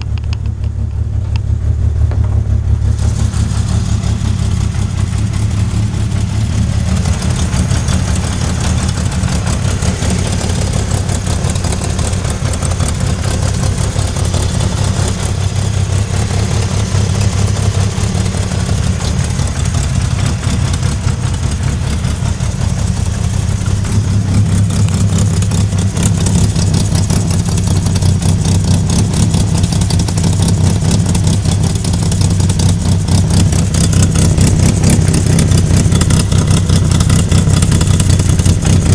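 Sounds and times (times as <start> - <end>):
car engine with rapid knocking: 0.0 - 38.9.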